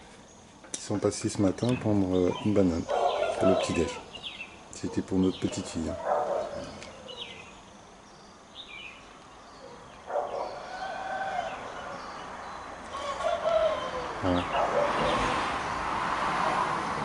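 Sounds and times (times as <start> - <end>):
road traffic noise: 0.0 - 17.0
bird chirps: 1.5 - 15.3.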